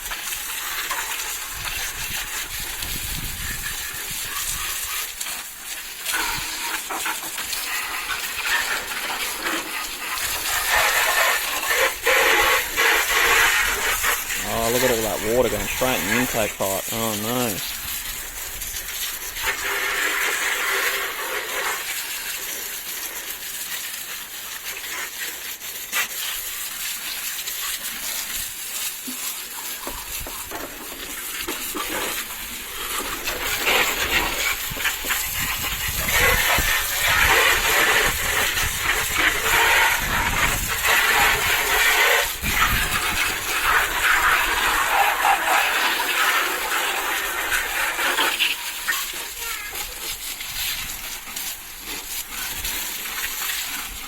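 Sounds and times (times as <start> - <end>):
hose water spraying on car: 0.0 - 54.0.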